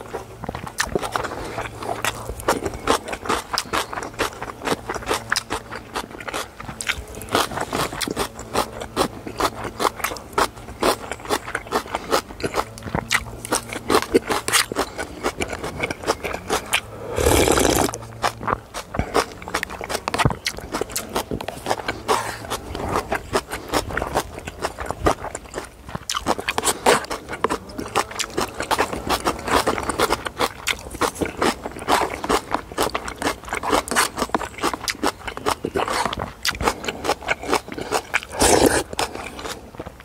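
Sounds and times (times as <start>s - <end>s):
person chewing: 0.0s - 40.0s.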